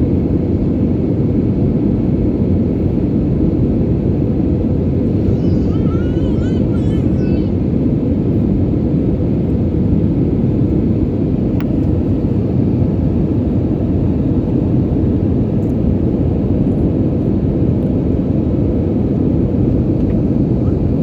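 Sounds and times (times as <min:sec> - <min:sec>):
airliner cabin engine noise: 0:00.0 - 0:21.0.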